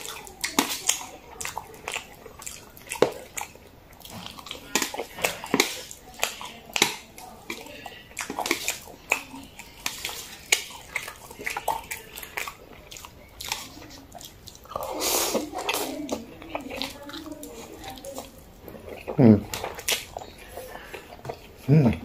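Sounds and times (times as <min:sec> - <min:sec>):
slurping noodles: 0:00.0 - 0:21.6
wet chewing and lip-smacking: 0:00.0 - 0:22.0.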